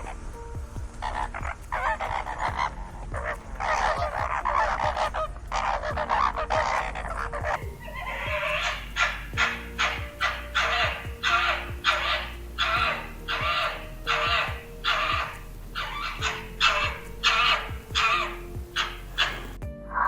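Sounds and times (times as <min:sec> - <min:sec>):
steady low hum: 0:00.0 - 0:19.8
harsh animal calls: 0:00.0 - 0:20.0.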